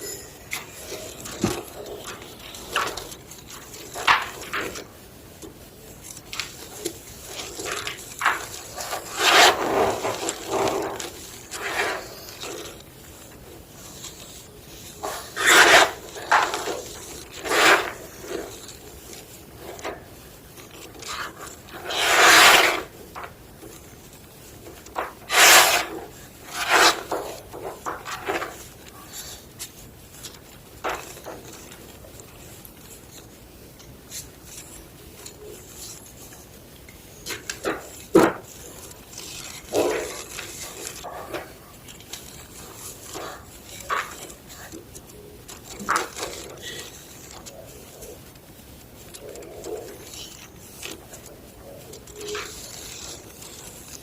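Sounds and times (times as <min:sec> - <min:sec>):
chalk block crunching: 0:06.0 - 0:54.0.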